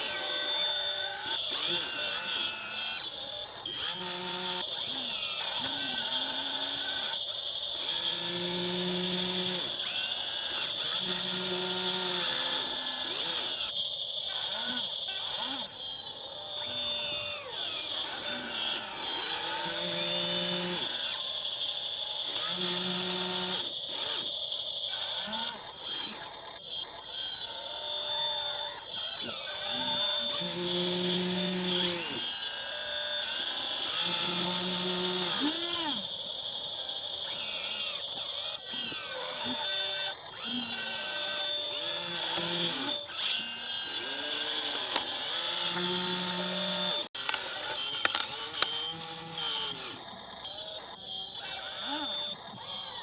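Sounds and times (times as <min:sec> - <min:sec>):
toy excavator motors whining: 0:00.0 - 0:53.0.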